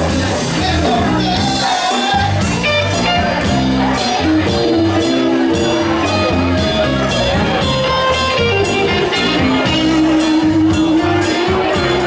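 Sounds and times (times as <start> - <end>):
bass guitar: 0.0 - 12.0
electric guitar: 0.0 - 12.0
steady drum beat: 0.0 - 12.0.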